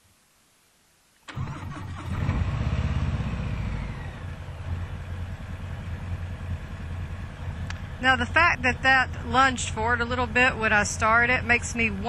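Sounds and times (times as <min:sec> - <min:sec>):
motorcycle engine starting and idling: 0:01.3 - 0:12.0.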